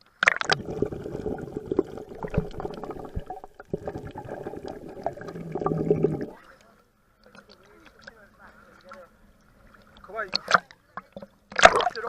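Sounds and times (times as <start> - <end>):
sea water gurgling and sloshing: 0.0 - 12.0.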